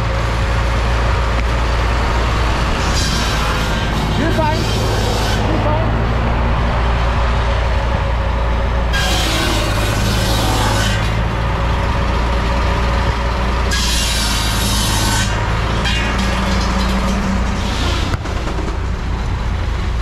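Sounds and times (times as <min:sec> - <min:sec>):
steam engine drone: 0:00.0 - 0:20.0.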